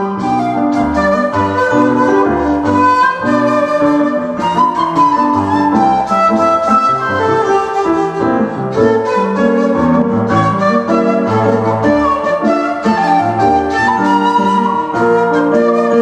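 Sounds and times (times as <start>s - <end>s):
bamboo flute melody: 0.0s - 16.0s
piano chords: 0.0s - 16.0s.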